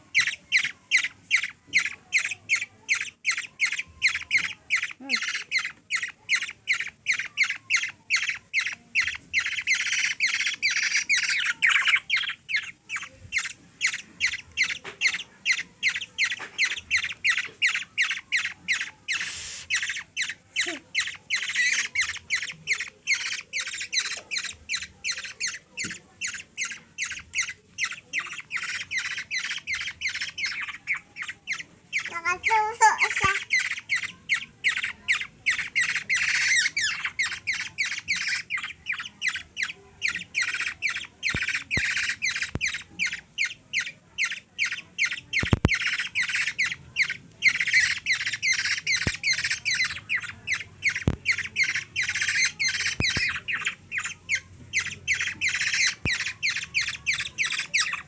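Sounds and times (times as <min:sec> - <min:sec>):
young bird squawking begging calls: 0:00.1 - 0:58.0.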